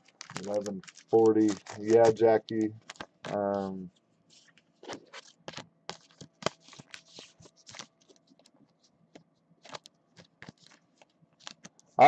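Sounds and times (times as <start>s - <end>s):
plastic sleeves clicking and crinkling: 0.0s - 3.7s, 4.4s - 12.0s.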